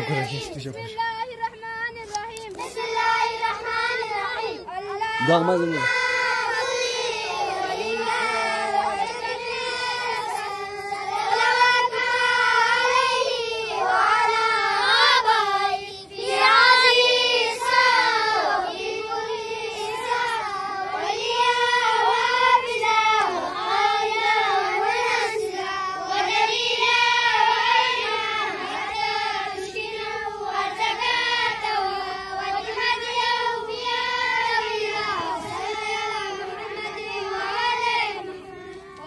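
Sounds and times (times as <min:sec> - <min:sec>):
children chanting in unison: 0:02.5 - 0:39.0.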